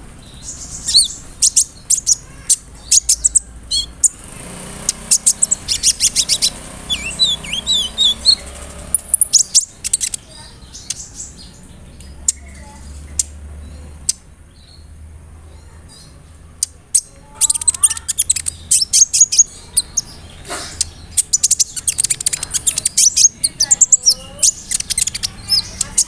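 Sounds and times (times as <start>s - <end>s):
sunbird chirps and trills: 0.0s - 26.0s.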